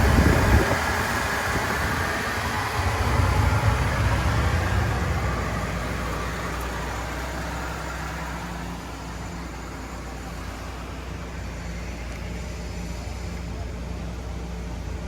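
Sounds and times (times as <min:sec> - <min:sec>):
small truck engine running: 0:00.0 - 0:15.0.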